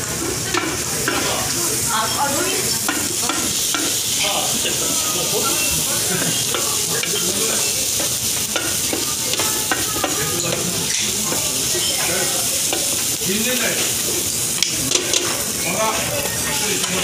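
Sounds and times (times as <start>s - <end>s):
meat and onion sizzling in oil: 0.0s - 17.0s.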